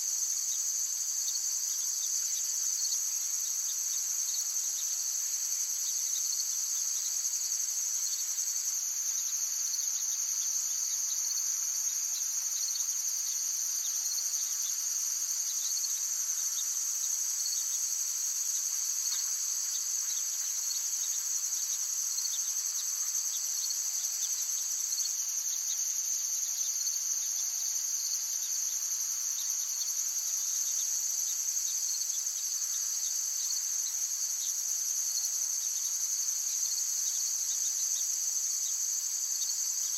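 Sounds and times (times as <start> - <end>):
insect chorus trilling: 0.1 - 39.9.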